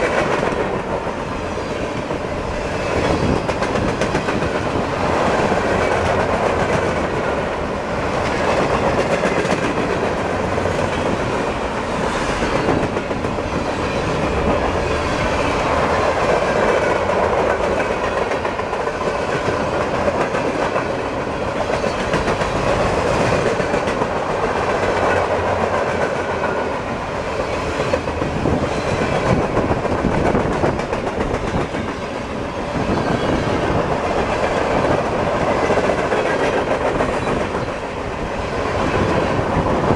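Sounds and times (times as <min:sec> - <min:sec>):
freight train wheels rolling: 0:00.0 - 0:39.9.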